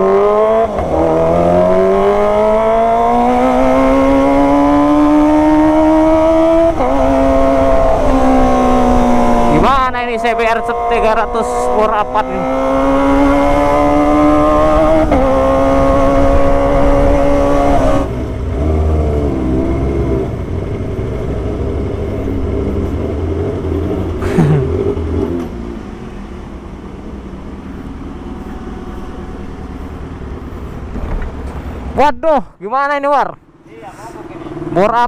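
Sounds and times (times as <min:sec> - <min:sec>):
motorcycle engine revving: 0:00.0 - 0:32.0, 0:33.4 - 0:35.0.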